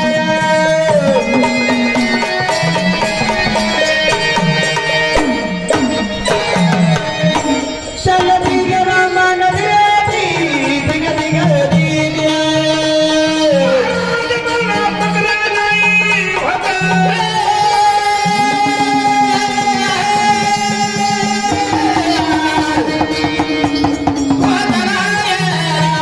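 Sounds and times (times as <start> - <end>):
hand drum strokes: 0.8 - 26.0.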